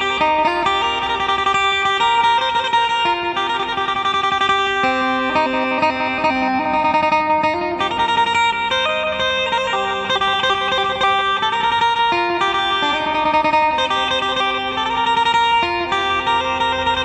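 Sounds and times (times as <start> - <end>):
electric plucked lute melody: 0.0 - 17.0.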